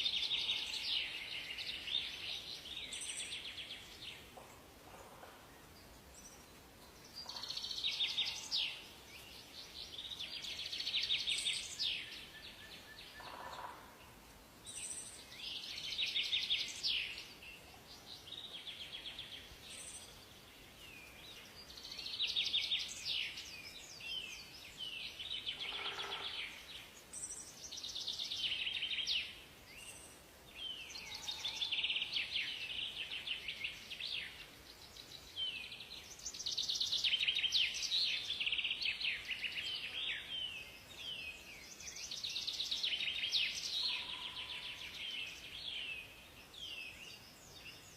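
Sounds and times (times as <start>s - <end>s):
faint steady hiss: 0.0s - 47.9s
songbirds trilling: 0.0s - 47.9s.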